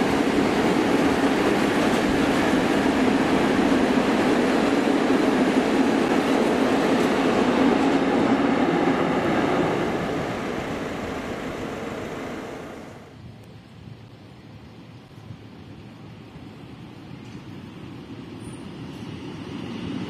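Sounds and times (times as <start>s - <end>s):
freight train rumbling past: 0.0s - 13.2s, 15.7s - 20.0s.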